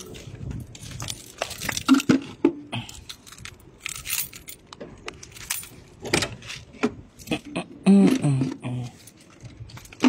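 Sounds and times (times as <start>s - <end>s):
metallic clinks and rattles: 0.0s - 7.4s, 8.8s - 10.0s.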